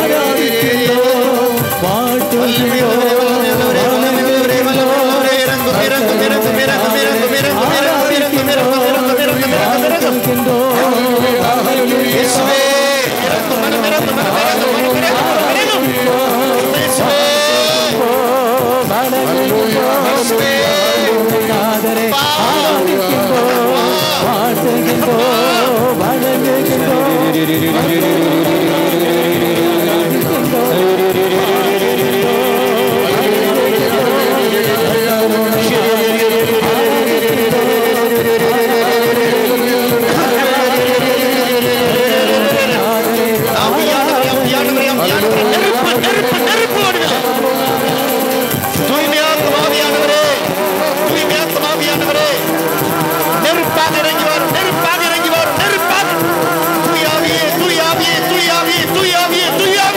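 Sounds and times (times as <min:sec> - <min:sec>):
slow devotional worship music: 0:00.0 - 0:59.9.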